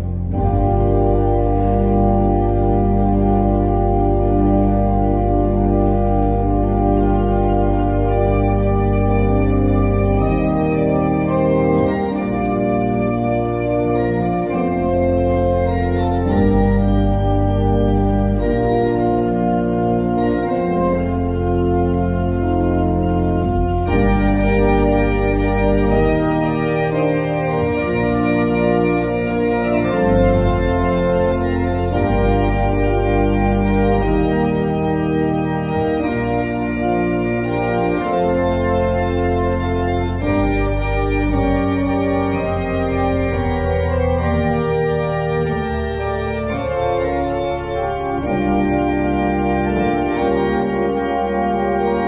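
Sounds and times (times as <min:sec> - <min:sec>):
church organ playing chords: 0:00.0 - 0:52.0.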